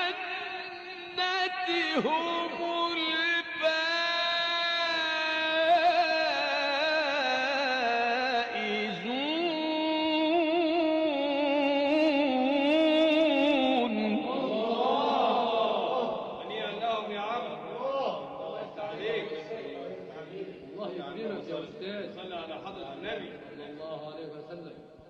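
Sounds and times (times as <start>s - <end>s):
man chanting melodically: 0.0s - 25.0s.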